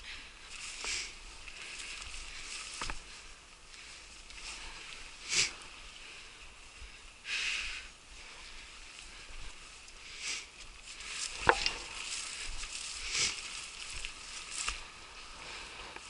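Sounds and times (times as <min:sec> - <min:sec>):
footsteps through grass: 0:00.0 - 0:07.2, 0:08.1 - 0:16.0.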